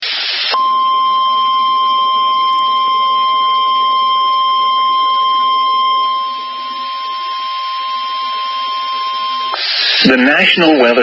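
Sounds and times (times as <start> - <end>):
steady alarm tone: 0.5 - 11.0
faint radio hiss: 1.8 - 11.0.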